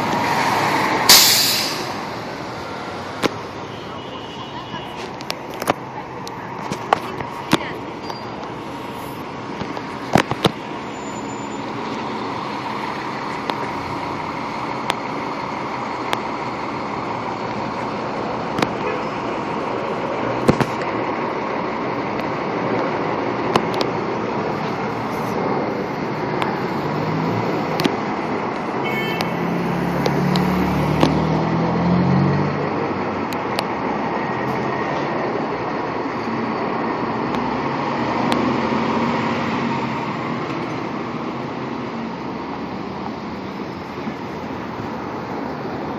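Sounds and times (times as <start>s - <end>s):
fire engine diesel engine running: 0.0s - 31.0s, 32.6s - 45.9s
street traffic noise: 0.0s - 45.9s.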